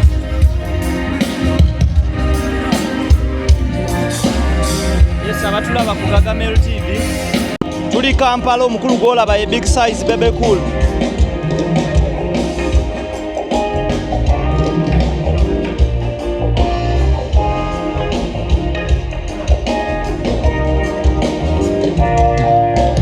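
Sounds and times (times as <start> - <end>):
band playing guitar bass and drums: 0.0 - 23.0.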